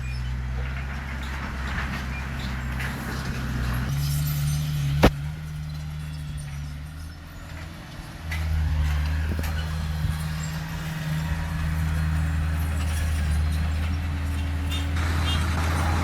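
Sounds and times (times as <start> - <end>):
heavy diesel engine droning: 0.0 - 16.0.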